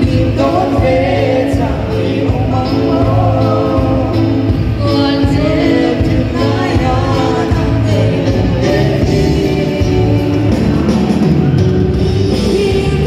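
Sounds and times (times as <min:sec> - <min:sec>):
live band music: 0:00.0 - 0:13.0
voices singing together: 0:00.0 - 0:13.0.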